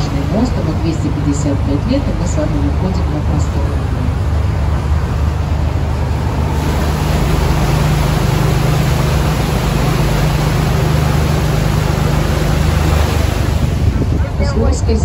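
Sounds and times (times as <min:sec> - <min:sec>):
boat engine running: 0:00.0 - 0:15.0
churned water rushing: 0:00.0 - 0:15.0.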